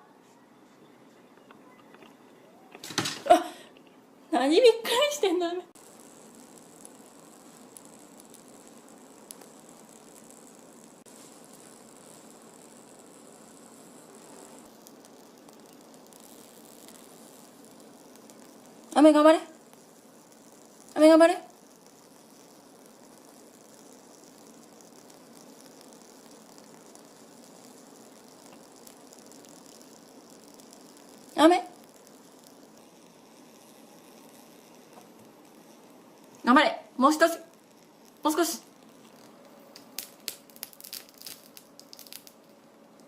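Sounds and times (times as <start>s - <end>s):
faint steady hiss: 0.0s - 43.0s
tiny ticks: 5.8s - 36.5s, 37.2s - 43.0s
small faint clicks: 6.0s - 19.0s, 19.6s - 36.5s, 37.5s - 43.0s.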